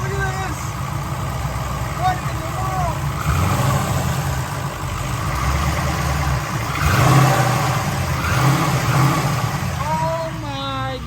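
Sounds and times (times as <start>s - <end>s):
misfiring engine revving: 0.0s - 11.0s.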